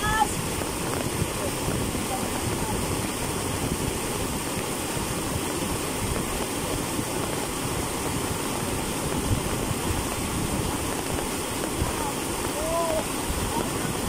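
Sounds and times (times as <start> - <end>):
floodwater rushing over road: 0.0 - 14.0.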